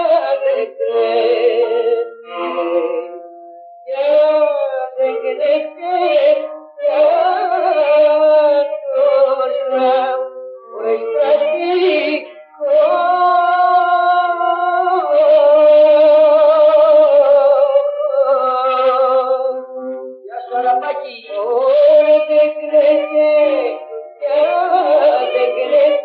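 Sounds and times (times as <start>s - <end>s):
clarinet: 0.0s - 26.0s
man singing: 0.0s - 26.0s.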